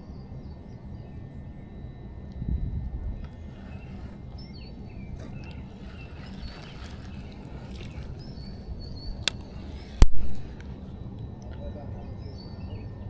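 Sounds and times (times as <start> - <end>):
birds chirping: 0.0 - 13.0
low outdoor rumble: 0.0 - 13.0.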